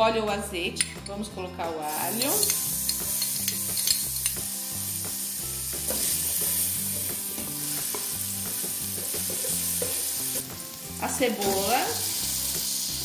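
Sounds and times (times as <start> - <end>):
garlic sizzling in hot oil: 1.9 - 13.0.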